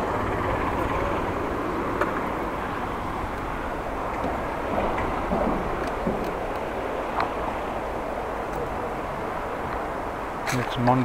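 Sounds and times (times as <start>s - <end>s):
city traffic: 0.0s - 11.0s.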